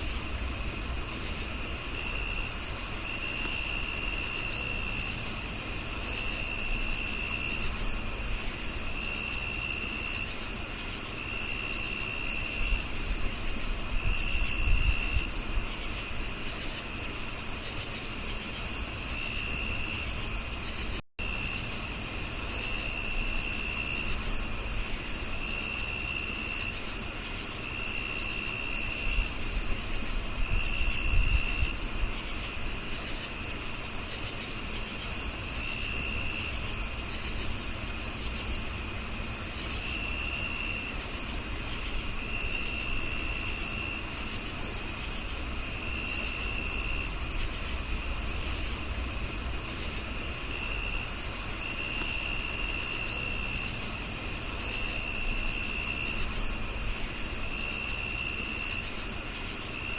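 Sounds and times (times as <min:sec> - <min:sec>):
cricket chirping: 0:00.0 - 0:59.9
high-pitched cricket trill: 0:00.0 - 0:59.9.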